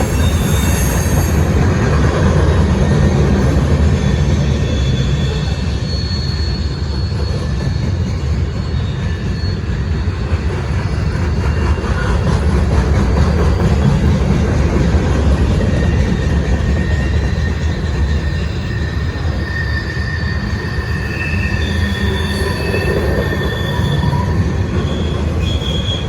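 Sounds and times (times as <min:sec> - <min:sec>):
high-pitched wheel squeal: 0:00.0 - 0:14.0, 0:15.5 - 0:26.0
freight train wheels rumbling: 0:00.0 - 0:26.0.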